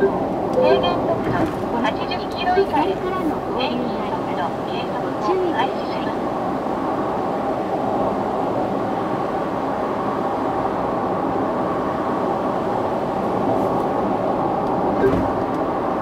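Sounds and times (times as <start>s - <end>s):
car interior road and engine rumble: 0.0s - 8.0s, 8.6s - 16.0s.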